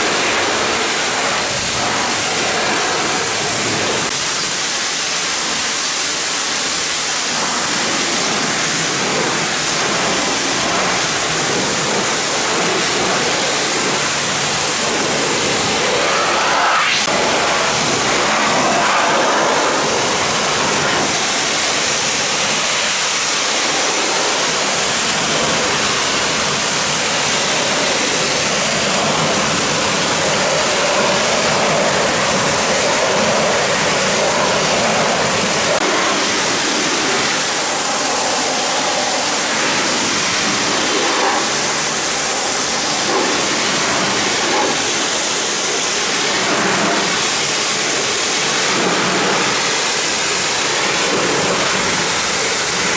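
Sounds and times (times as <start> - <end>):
pressure washer spraying water: 0.0 - 52.9.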